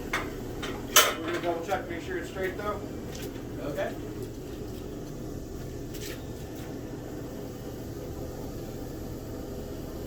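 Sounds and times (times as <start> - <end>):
forge equipment rushing hum: 0.0 - 10.0.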